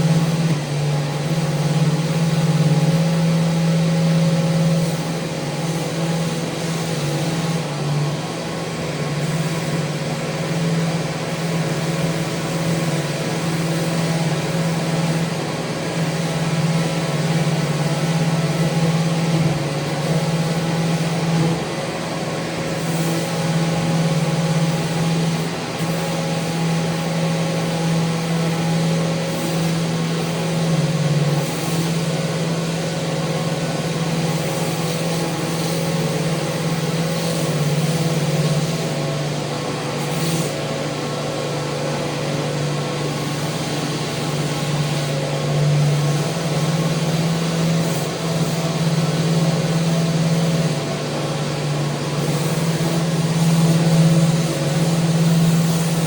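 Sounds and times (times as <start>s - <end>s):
electric power sander: 0.0s - 40.7s, 42.0s - 56.0s.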